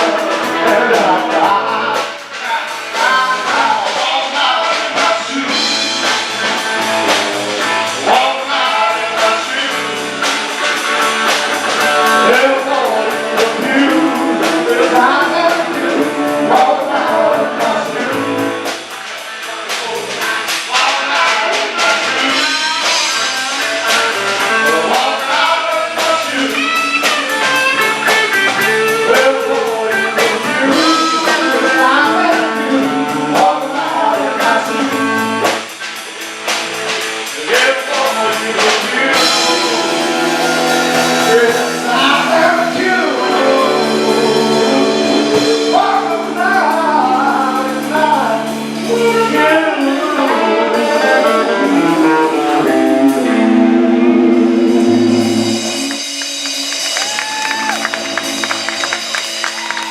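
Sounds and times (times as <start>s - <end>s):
person singing: 0.0s - 6.4s, 11.7s - 35.5s, 37.3s - 56.0s
guitar accompaniment: 0.0s - 59.9s.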